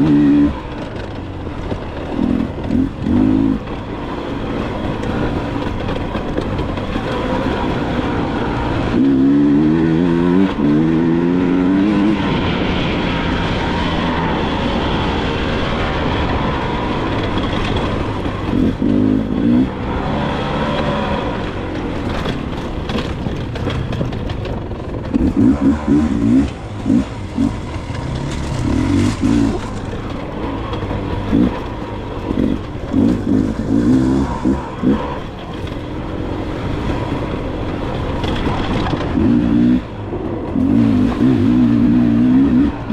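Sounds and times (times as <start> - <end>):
dirt bike engine revving: 0.0 - 24.2, 25.0 - 42.9.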